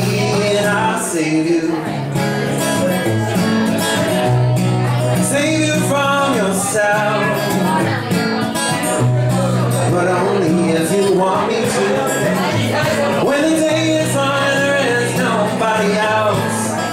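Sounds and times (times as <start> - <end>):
acoustic guitar strummed: 0.0 - 16.9
man singing: 0.0 - 16.9.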